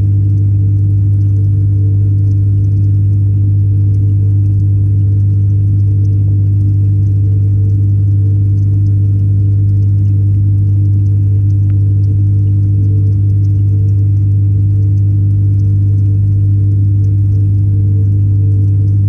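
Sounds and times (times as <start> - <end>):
electric pump hum underwater: 0.0 - 19.0
faint ticks: 0.0 - 19.0.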